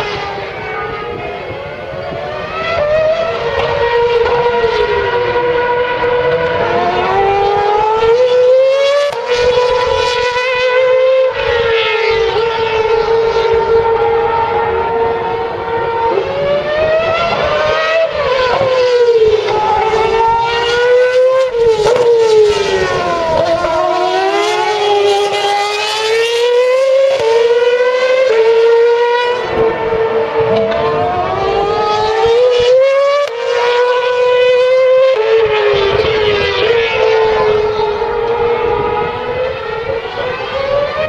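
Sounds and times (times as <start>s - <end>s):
racing car engines revving: 0.0s - 41.0s.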